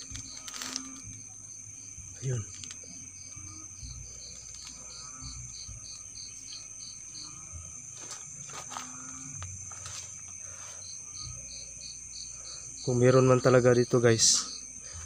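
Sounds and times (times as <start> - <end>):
cricket chirping: 0.0 - 15.0
insects trilling: 0.0 - 15.0.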